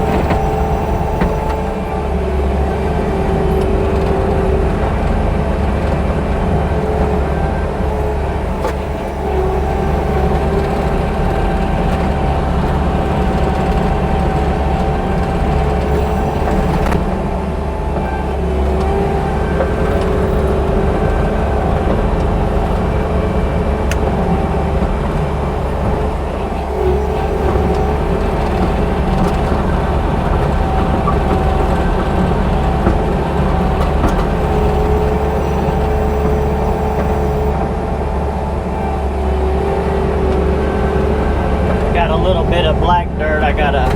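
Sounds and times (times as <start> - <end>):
track loader diesel engine: 0.0 - 43.9.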